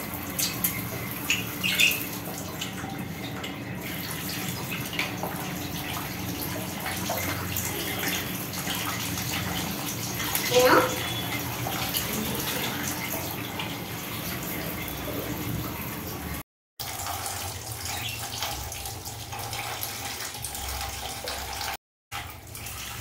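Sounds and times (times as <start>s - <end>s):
water running from a tap: 0.0s - 23.0s.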